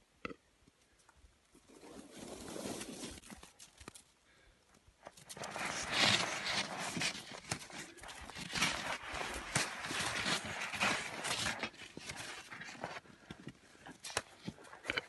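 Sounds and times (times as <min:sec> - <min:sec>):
scuffling and crunching in snow: 0:01.7 - 0:04.0, 0:05.0 - 0:15.0.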